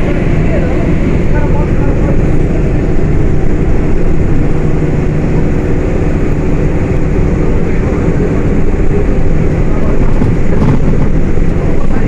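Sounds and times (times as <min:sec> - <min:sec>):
bus diesel engine running: 0:00.0 - 0:12.0
road and body noise: 0:00.0 - 0:12.0.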